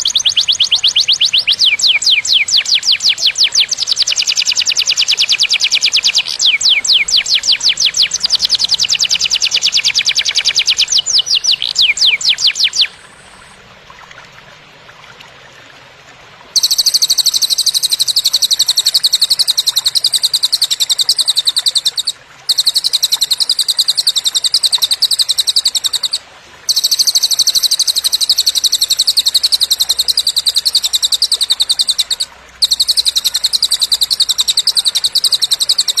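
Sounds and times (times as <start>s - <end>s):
bird rattling trills: 0.0s - 13.5s, 16.6s - 36.0s.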